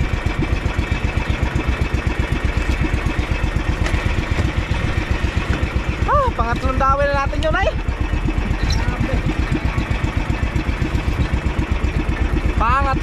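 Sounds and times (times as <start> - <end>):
boat engine chugging: 0.0 - 13.0
water noise: 0.0 - 13.0
wind: 0.0 - 13.0.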